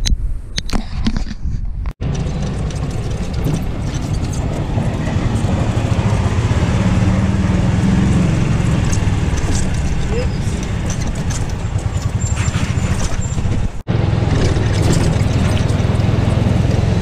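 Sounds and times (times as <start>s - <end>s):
golf cart rumbling on road: 2.0s - 17.0s.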